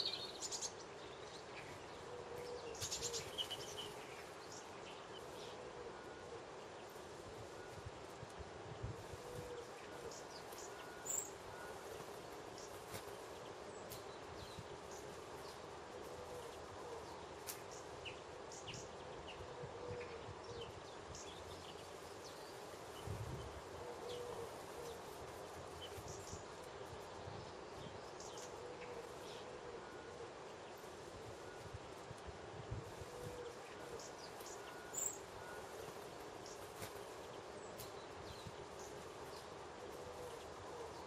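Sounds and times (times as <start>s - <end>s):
birds chirping: 0.0s - 32.0s, 32.9s - 41.0s.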